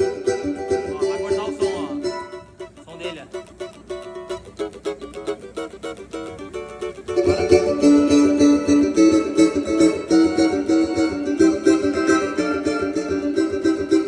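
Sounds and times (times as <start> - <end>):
amplified cavaquinho picking: 0.0 - 14.0.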